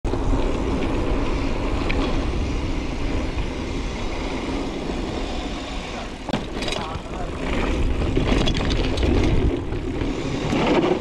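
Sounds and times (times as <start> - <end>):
bike ride rumble: 0.0 - 11.0
wind noise: 0.0 - 11.0.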